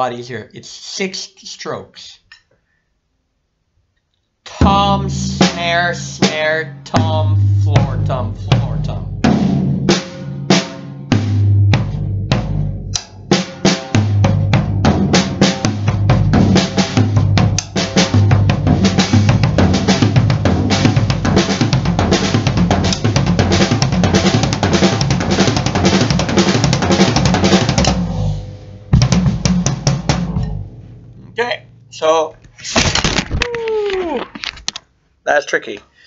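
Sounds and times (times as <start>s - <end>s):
drum kit played with sticks: 4.5s - 34.2s.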